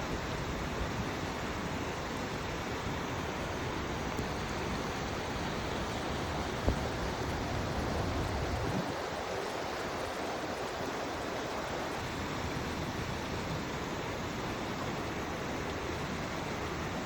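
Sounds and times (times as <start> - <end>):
rushing floodwater: 0.0 - 17.0.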